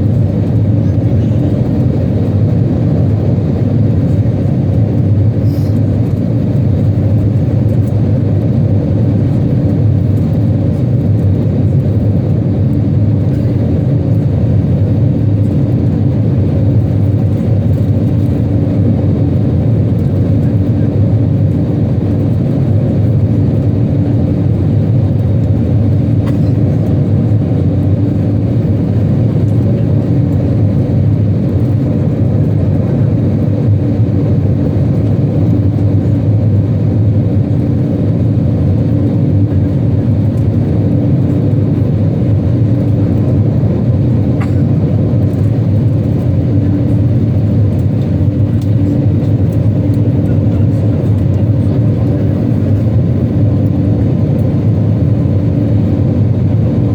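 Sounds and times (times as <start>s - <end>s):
airplane cabin engine drone: 0.0s - 56.9s.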